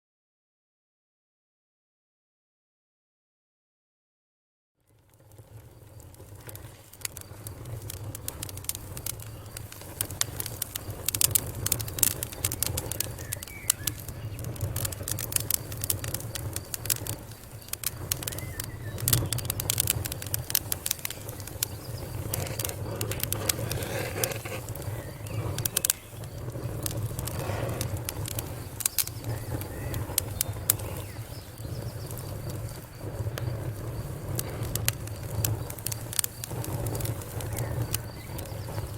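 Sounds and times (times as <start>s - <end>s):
fire pops and snaps: 4.8s - 38.9s
low rumble of flames: 4.8s - 38.9s.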